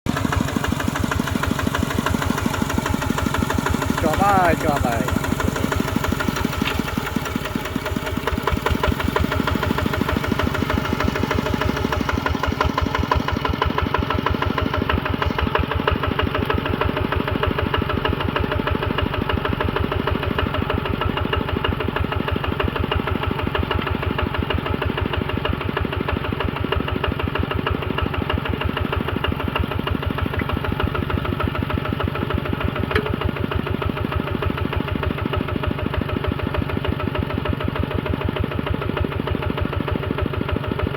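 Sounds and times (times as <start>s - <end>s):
engine running steadily: 0.1s - 40.9s.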